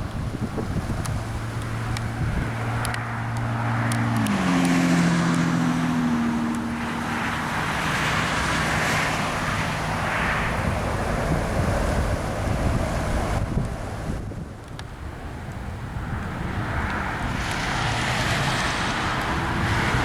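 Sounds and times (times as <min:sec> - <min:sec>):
passing engine hum: 0:00.0 - 0:20.0
steady rushing noise: 0:00.0 - 0:20.0
wind on microphone: 0:00.0 - 0:20.0.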